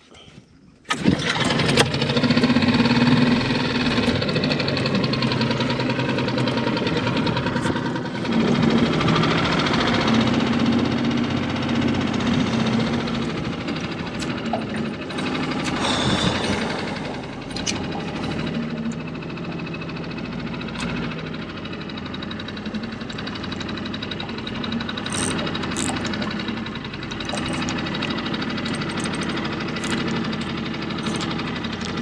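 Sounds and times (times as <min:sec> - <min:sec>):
outboard motor running: 0:00.5 - 0:32.0.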